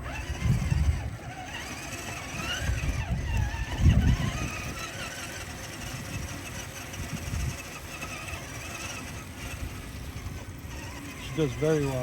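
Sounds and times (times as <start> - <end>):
rc car motor whining: 0.0 - 12.0.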